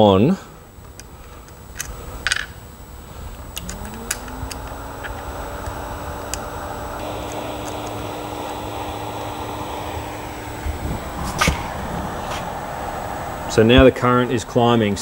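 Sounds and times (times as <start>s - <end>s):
charger cooling fan whirring: 0.0s - 15.0s
charging leads clicking: 0.8s - 15.0s.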